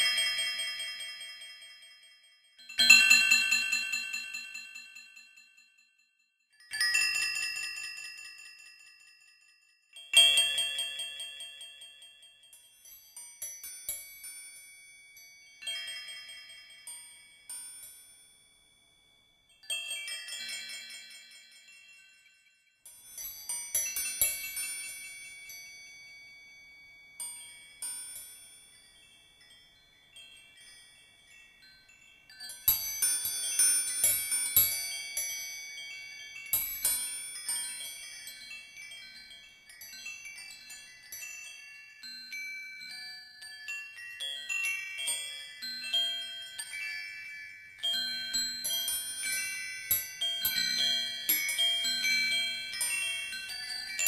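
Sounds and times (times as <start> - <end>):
chime-like metallic tones: 0.0 - 54.0.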